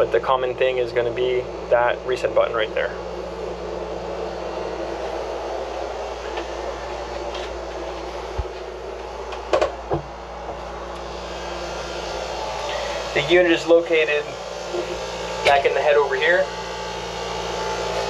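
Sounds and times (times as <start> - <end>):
air conditioner air rushing: 0.0 - 18.0
low hum: 0.0 - 18.0.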